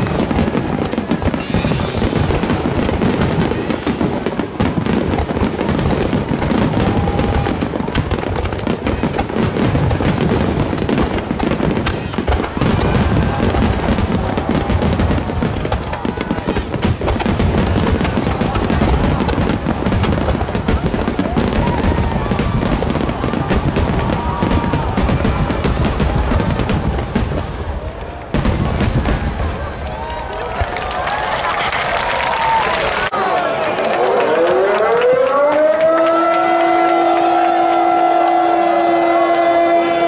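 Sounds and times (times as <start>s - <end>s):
fireworks popping and booming: 0.0s - 40.0s.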